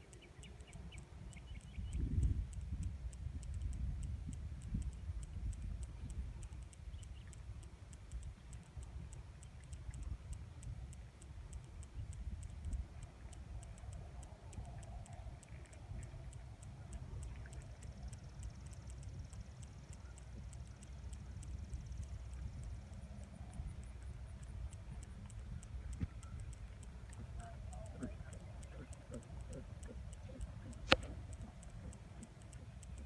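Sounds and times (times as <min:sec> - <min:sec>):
high-pitched ticking: 0:00.0 - 0:33.0
steady low rumble: 0:00.0 - 0:33.0.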